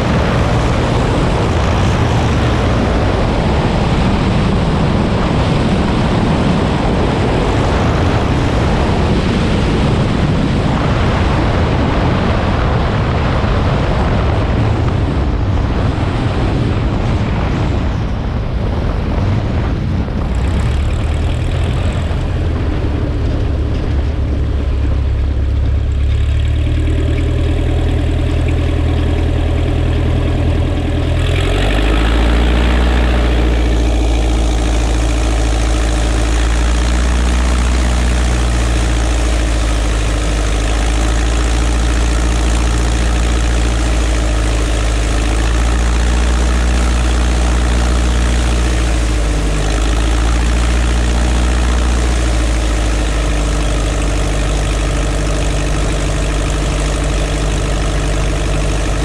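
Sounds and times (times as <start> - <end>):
heavy wind noise: 0.0 - 59.0
small plane engine and propeller: 0.0 - 59.0.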